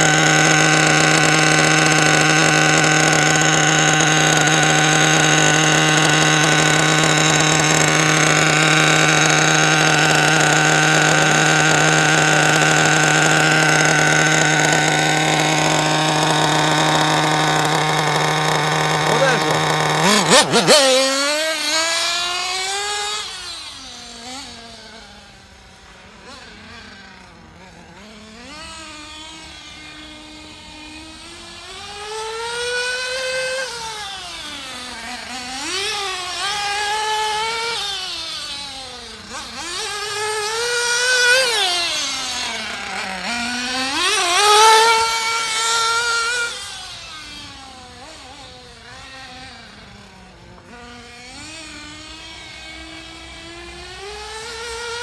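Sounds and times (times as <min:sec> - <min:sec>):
rc car engine revving: 0:00.0 - 0:55.0.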